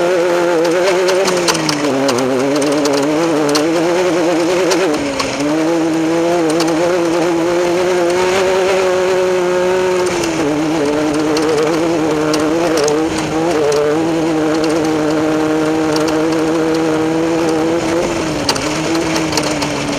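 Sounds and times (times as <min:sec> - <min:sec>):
race vehicle engine revving high: 0:00.0 - 0:19.9
vehicle clicks and knocks: 0:00.0 - 0:19.9.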